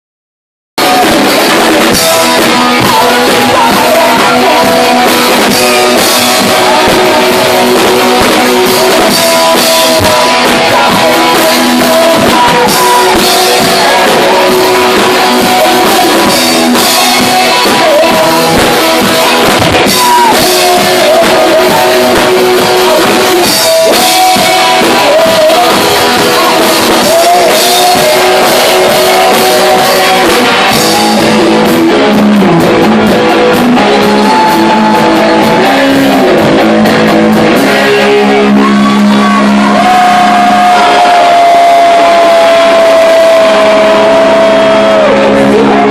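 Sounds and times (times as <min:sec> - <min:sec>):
drum kit: 0:00.8 - 0:45.9
electric guitar: 0:00.8 - 0:45.9
person singing and shouting: 0:00.8 - 0:45.9.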